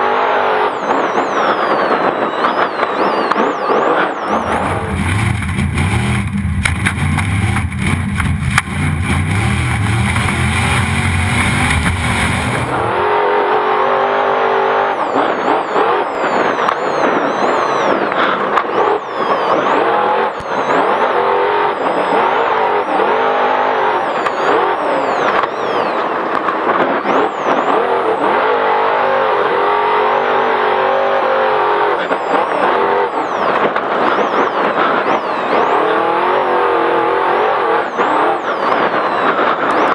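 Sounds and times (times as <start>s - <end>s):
racing engine revving: 0.0s - 39.9s
road and wind noise: 0.0s - 39.9s.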